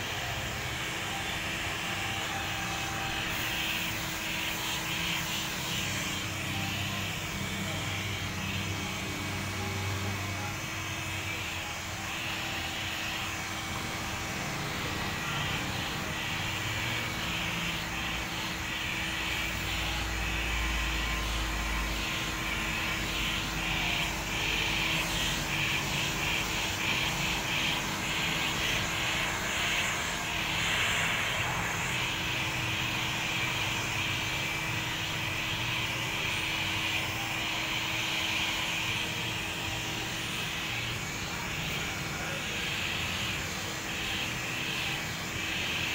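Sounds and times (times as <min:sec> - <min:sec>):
heat gun blowing: 0:00.0 - 0:45.9.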